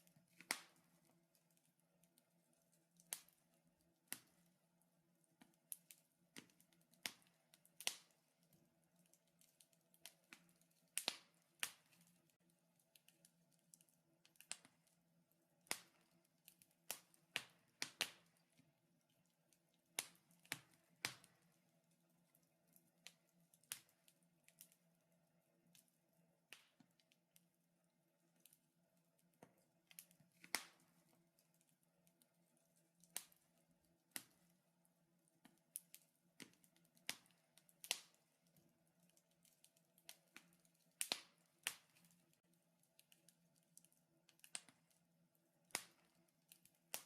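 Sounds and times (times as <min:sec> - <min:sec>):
wood fire crackling: 0:00.0 - 0:27.6, 0:28.2 - 0:47.0.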